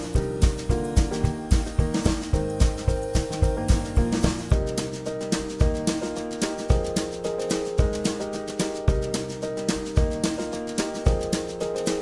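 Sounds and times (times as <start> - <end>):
steady drum beat with deep kick: 0.0 - 12.0.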